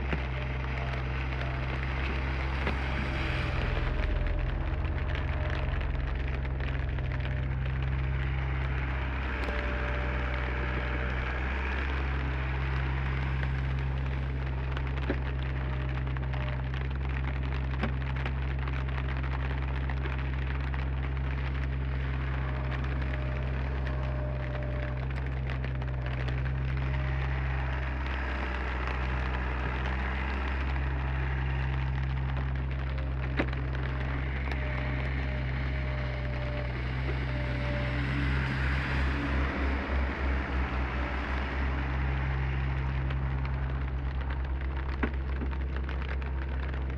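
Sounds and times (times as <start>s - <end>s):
excavator diesel engine running: 0.0s - 46.9s
rain falling: 0.0s - 46.9s.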